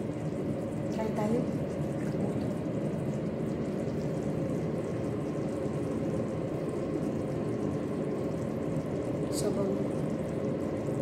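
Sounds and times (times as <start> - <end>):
faint even hum: 0.0 - 11.0.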